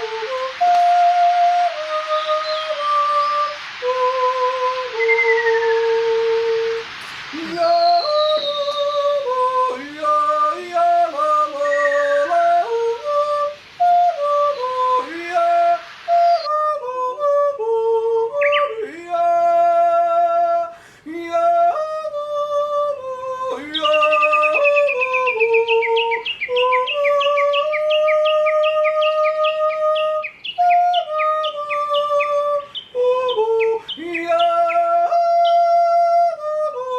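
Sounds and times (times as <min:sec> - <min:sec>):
falling whistled chirps: 0:00.0 - 0:16.6, 0:18.2 - 0:19.7, 0:23.5 - 0:36.4
background hiss: 0:00.0 - 0:36.9
person yodeling: 0:00.0 - 0:36.9.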